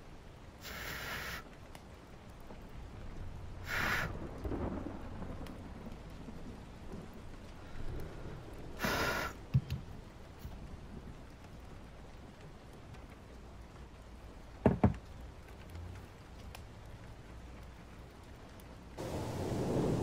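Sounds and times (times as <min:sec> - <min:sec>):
steady rain: 0:00.0 - 0:20.0
thunder rumble: 0:02.3 - 0:14.2, 0:15.1 - 0:20.0.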